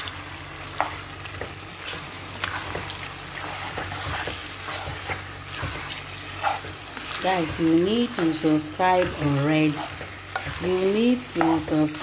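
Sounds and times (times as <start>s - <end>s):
meat and onions sizzling in a pan: 0.0s - 12.0s
spatula scraping a pan: 0.7s - 12.0s.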